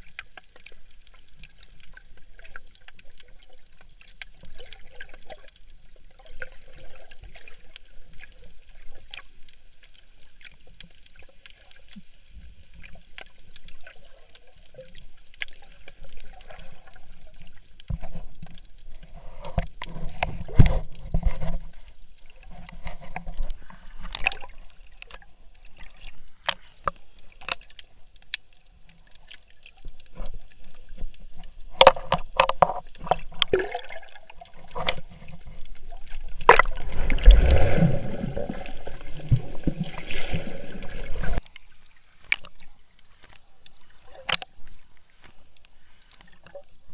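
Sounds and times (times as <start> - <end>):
water trickling and sloshing: 0.0 - 46.9.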